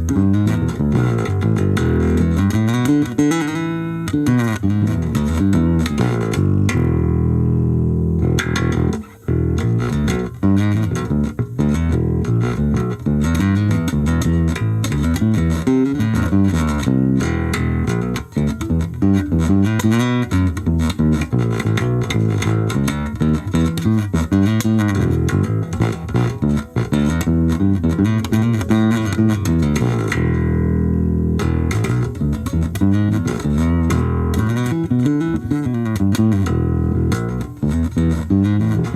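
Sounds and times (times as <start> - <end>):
electric bass plucked notes: 0.0 - 38.9.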